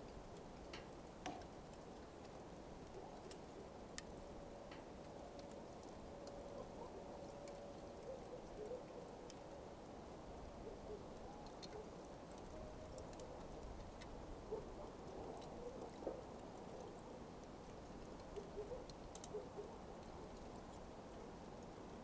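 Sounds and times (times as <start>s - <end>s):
coals crackling: 0.0s - 22.0s.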